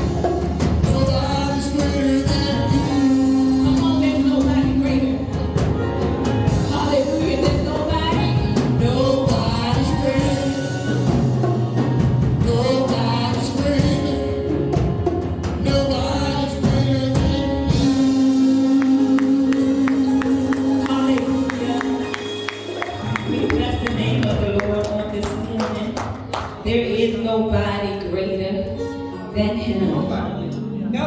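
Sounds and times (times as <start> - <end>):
gospel singing over a band: 0.0 - 25.7.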